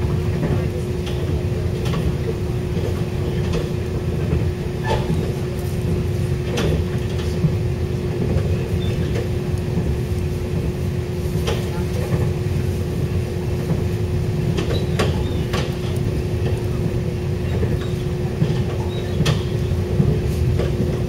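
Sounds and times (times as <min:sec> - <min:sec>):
constant hum: 0:00.0 - 0:21.0
train rumbling on rails: 0:00.0 - 0:21.0.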